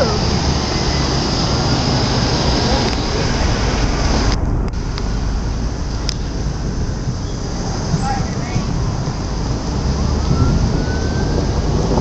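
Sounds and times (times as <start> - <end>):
thunder rumbling: 0.0 - 12.0.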